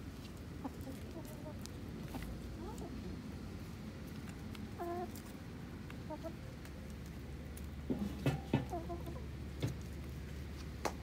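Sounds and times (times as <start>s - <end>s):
hens clucking: 0.6s - 10.4s.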